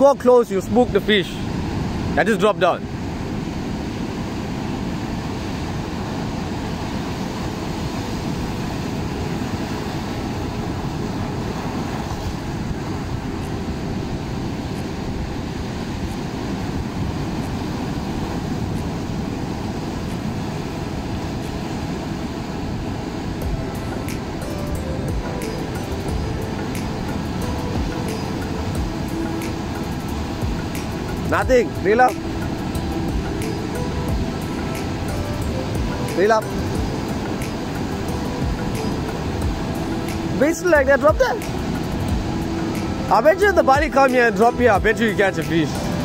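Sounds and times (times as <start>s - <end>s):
ocean surf breaking on rocks: 0.0s - 46.0s.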